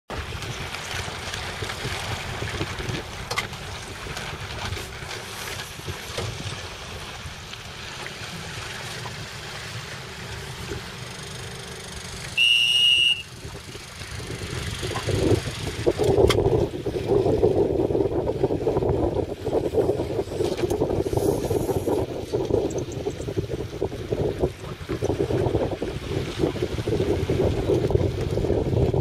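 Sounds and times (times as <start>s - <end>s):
wind buffeting microphone: 0.1s - 10.9s, 13.2s - 29.0s.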